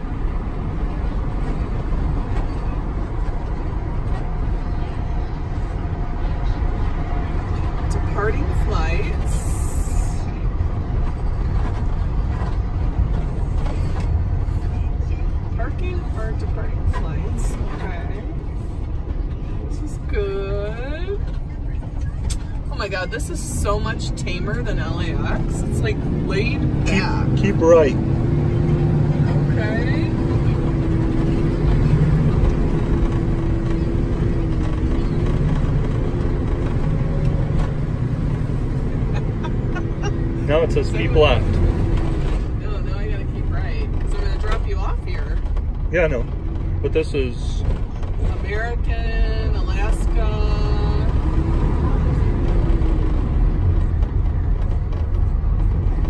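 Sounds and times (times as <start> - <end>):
engine and road noise: 0.0 - 56.0.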